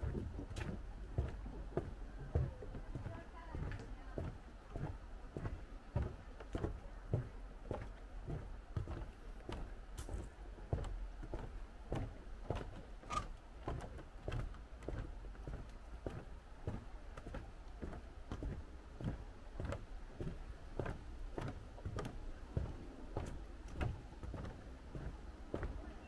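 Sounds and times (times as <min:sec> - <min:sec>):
footsteps on wooden boardwalk: 0:00.0 - 0:26.0.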